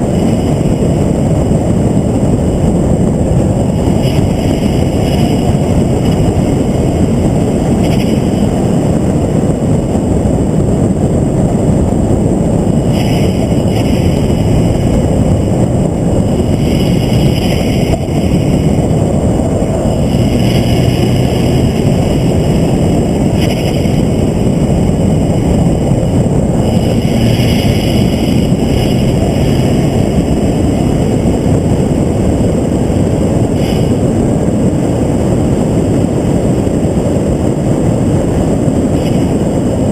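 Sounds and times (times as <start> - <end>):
engine and wind rush: 0.0 - 39.9.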